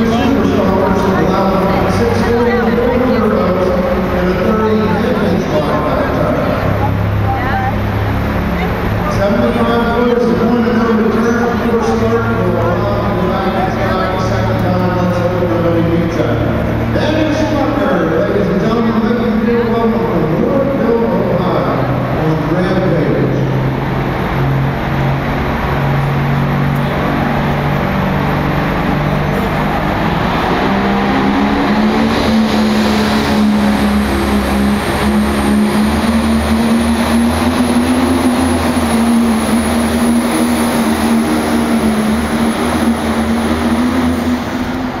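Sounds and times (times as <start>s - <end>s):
tractor engine under full load: 0.0s - 45.0s.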